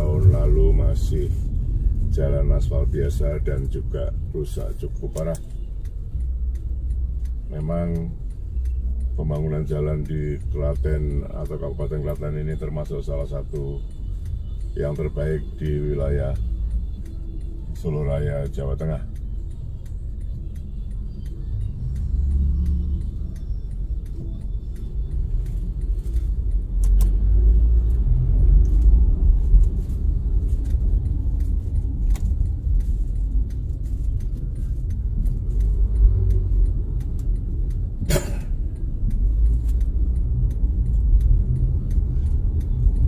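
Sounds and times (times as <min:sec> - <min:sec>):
vehicle engine and tyre rumble: 0:00.0 - 0:43.0.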